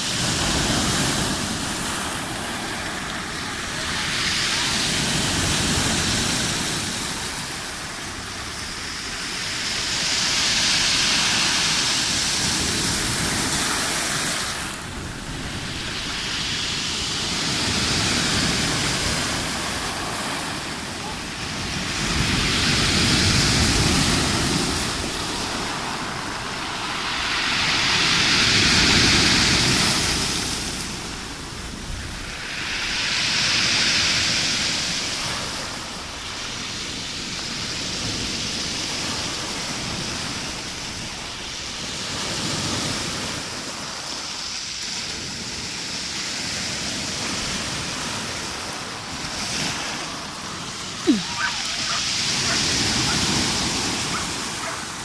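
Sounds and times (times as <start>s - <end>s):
waves breaking and washing: 0.0s - 55.0s.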